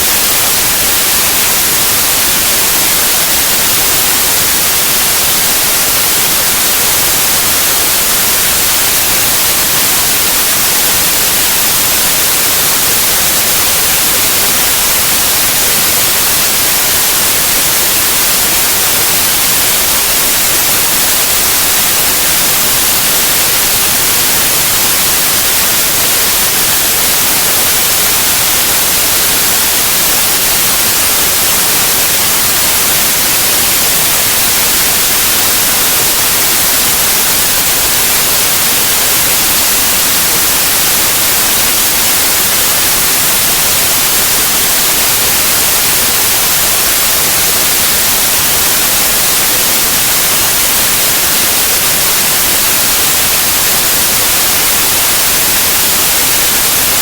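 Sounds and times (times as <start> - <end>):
steady white noise: 0.0 - 57.0.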